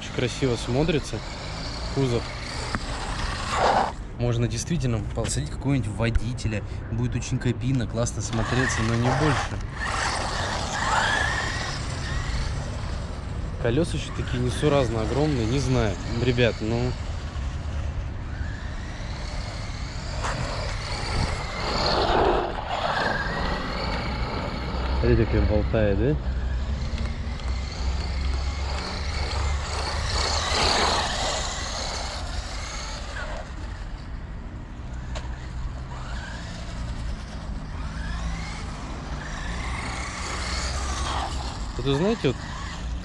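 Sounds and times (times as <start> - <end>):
electric toy car motor whine: 0.0 - 4.0, 8.2 - 43.0.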